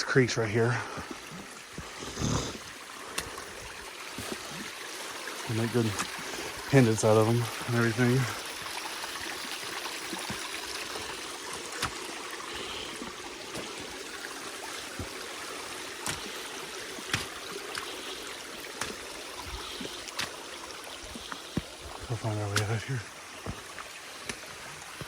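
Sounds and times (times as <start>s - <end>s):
creek trickling over stone: 0.0s - 25.0s.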